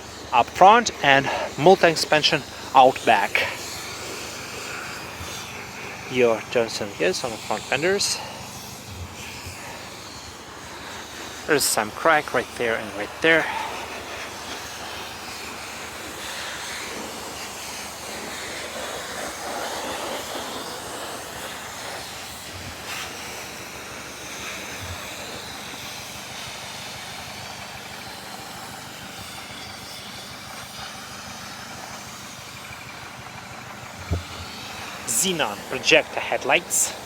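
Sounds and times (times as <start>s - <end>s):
car engine idling: 0.0s - 37.0s
hiss: 0.0s - 37.0s.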